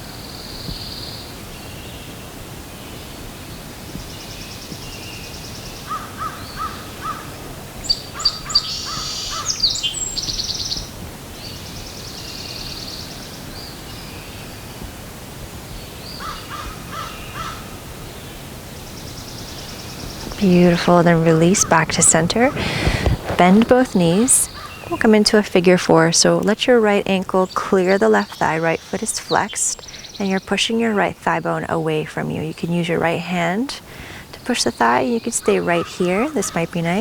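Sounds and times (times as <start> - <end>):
steady outdoor hiss: 0.0 - 37.0
birds singing and calling: 2.8 - 14.5, 15.8 - 37.0.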